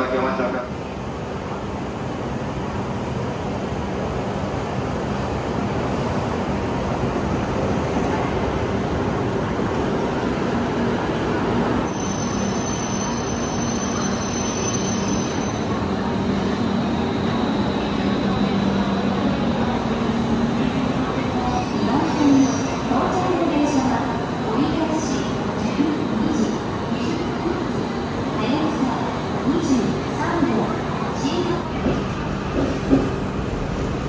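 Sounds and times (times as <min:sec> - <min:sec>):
train rushing into station: 0:00.0 - 0:34.0.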